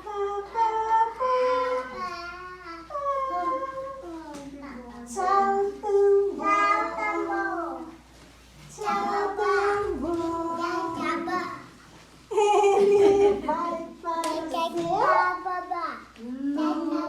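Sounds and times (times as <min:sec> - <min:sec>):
children singing: 0:00.0 - 0:11.9, 0:12.7 - 0:17.0.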